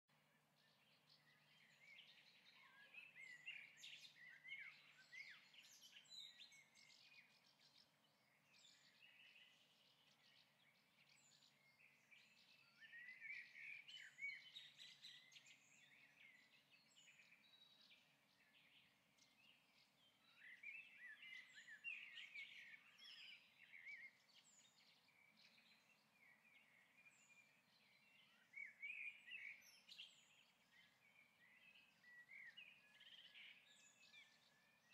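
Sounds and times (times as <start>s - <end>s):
small bird singing: 0.1s - 34.9s.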